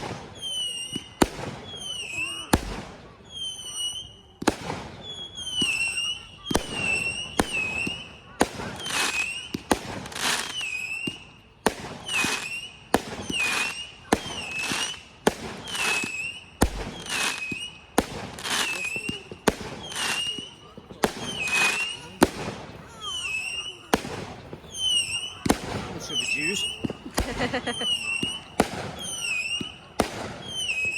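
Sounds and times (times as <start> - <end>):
fireworks cracking and whistling: 0.0 - 30.9.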